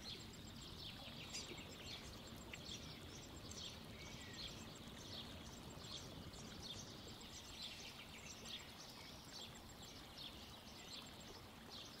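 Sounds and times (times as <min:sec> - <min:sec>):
faint birdsong chirps: 0:00.0 - 0:12.0
low outdoor background hum: 0:00.0 - 0:12.0.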